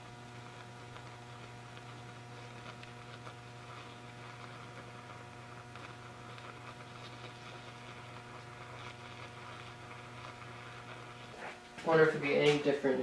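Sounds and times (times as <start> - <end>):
low electrical hum in water: 0.0 - 13.0
water fizzing and boiling: 0.0 - 13.0.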